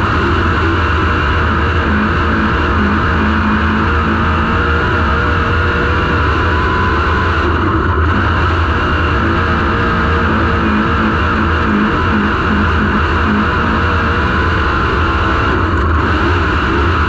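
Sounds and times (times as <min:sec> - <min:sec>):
race car engine droning: 0:00.0 - 0:17.0.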